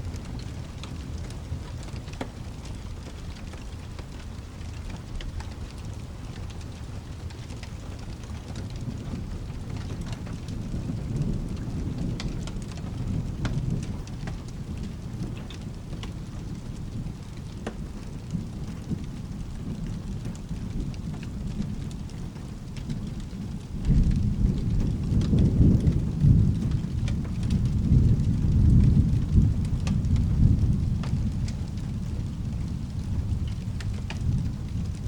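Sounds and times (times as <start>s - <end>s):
low rolling thunder: 0.0s - 35.0s
steady rain: 0.0s - 35.0s.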